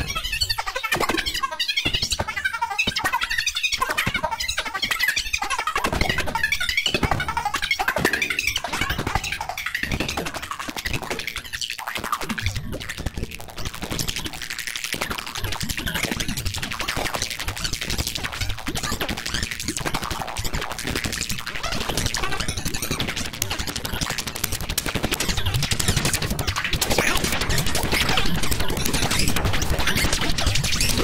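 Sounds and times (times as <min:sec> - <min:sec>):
crackling stream of rapid clicks: 0:00.0 - 0:31.0.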